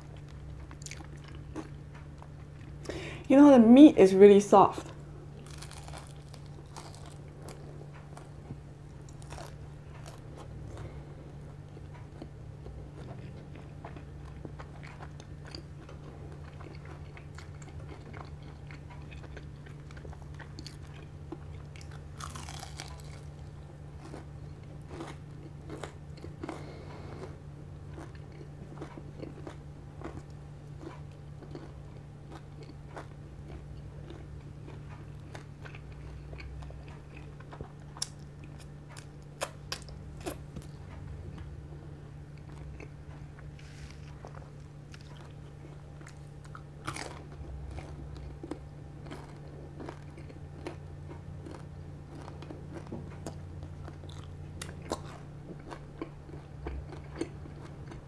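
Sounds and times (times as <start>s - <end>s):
chewing crispy pork: 0.0s - 3.8s, 4.8s - 58.0s
steady low hum: 0.0s - 58.0s.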